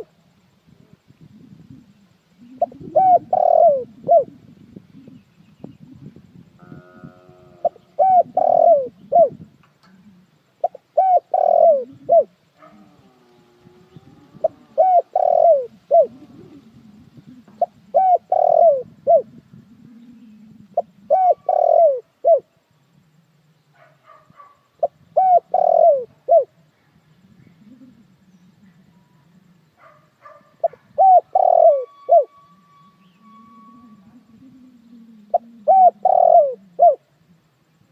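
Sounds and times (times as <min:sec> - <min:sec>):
dove cooing: 0:00.7 - 0:22.6, 0:24.8 - 0:37.5.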